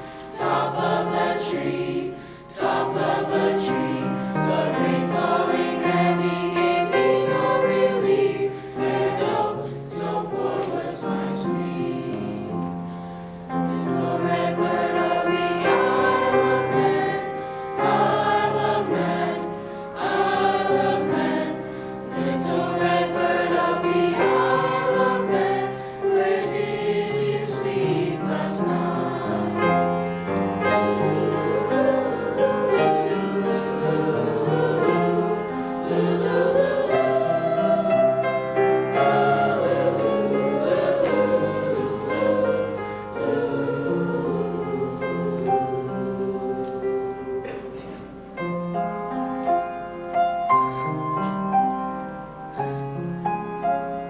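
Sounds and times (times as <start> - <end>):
choir singing a lullaby: 0.0 - 54.0.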